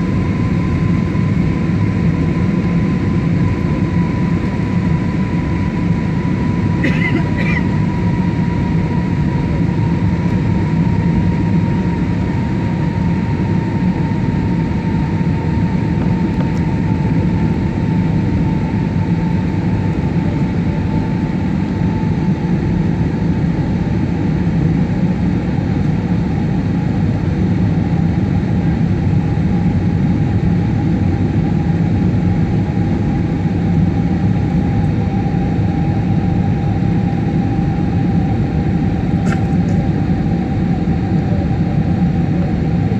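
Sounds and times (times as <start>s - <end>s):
airliner cabin engine noise: 0.0s - 42.9s.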